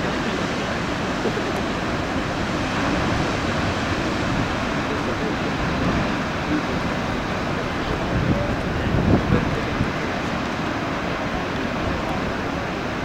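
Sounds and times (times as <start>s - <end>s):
heavy ocean surf roaring: 0.0s - 13.0s
wind noise: 0.0s - 13.0s.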